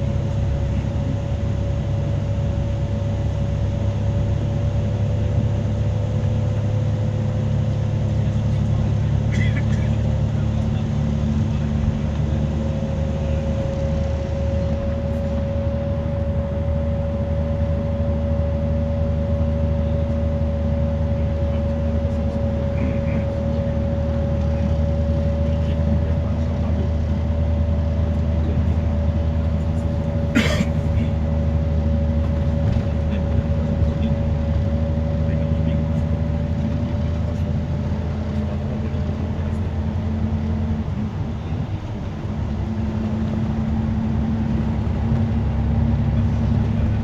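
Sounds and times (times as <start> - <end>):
coach engine and road drone: 0.0 - 47.0
steady whine: 0.0 - 47.0.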